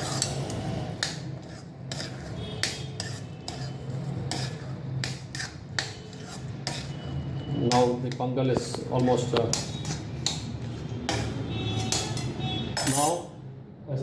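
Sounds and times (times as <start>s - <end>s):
spoon scraping metal pot: 0.0s - 13.2s.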